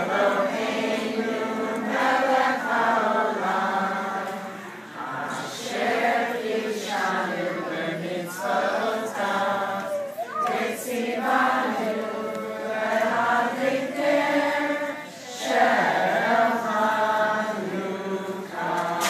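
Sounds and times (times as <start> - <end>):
crowd singing in unison: 0.0 - 19.0.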